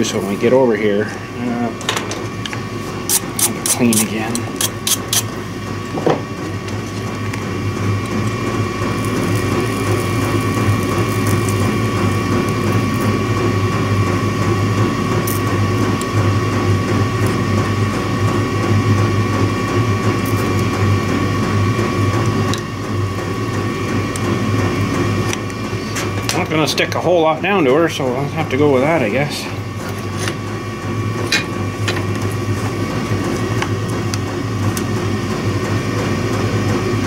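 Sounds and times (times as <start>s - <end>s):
machine humming: 0.0s - 37.0s.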